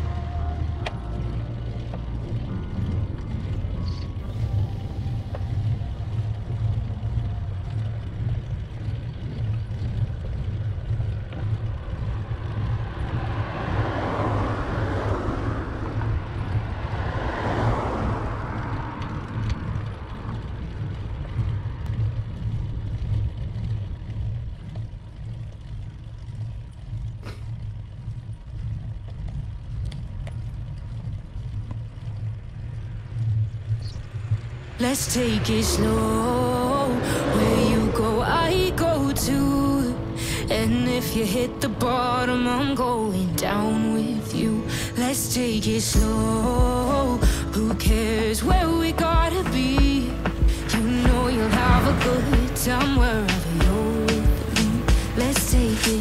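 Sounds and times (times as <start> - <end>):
vehicle passing: 0.0 - 25.8, 27.8 - 56.0
wind and road noise: 0.0 - 56.0.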